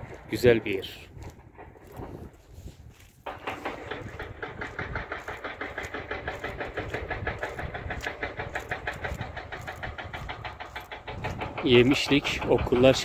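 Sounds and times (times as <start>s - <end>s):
construction machinery engine pulsing: 0.0s - 13.0s.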